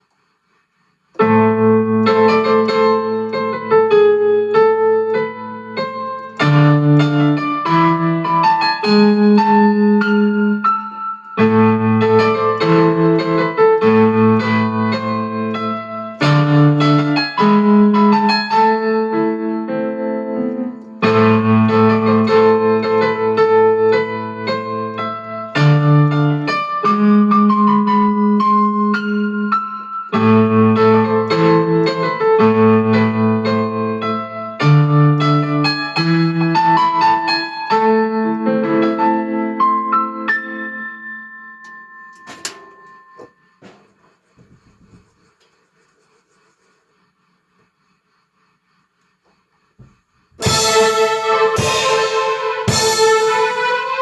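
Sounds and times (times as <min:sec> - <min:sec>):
electric piano playing: 0:01.1 - 0:43.7, 0:50.4 - 0:54.0
electronic keyboard music: 0:01.1 - 0:43.7, 0:50.4 - 0:54.0.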